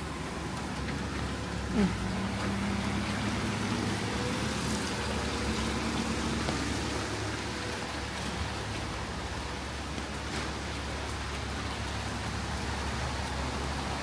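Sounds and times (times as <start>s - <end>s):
rain hiss: 0.0s - 14.0s
wet traffic: 0.0s - 14.0s.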